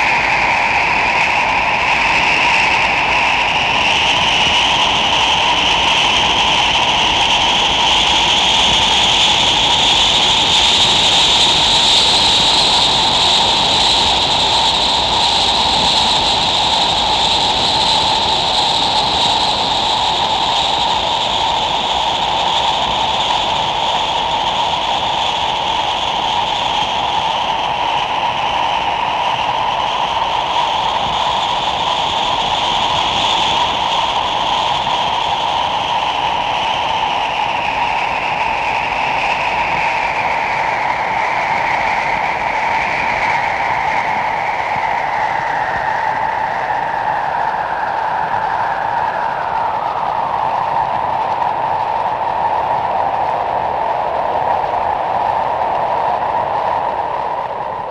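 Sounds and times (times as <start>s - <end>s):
strong wind: 0.0s - 57.9s.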